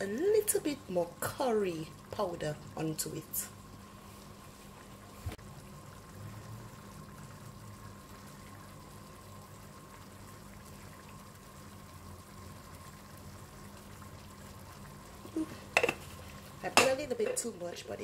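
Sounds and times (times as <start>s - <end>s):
stew simmering in a frying pan: 0.0s - 18.0s.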